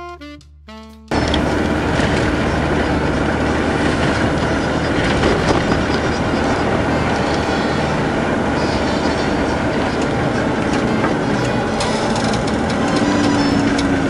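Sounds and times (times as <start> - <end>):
car engine and road noise: 1.1 - 14.0
rattle and clatter: 1.1 - 14.0.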